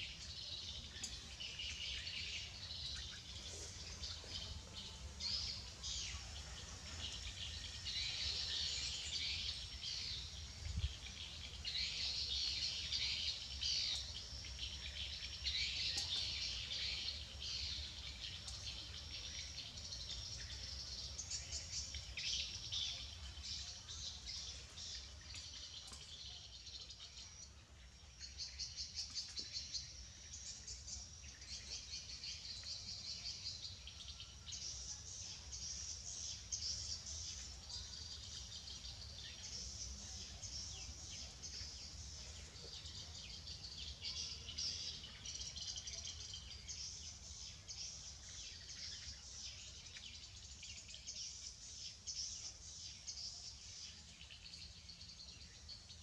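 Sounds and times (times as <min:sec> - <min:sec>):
small birds twittering: 0:00.0 - 0:56.0.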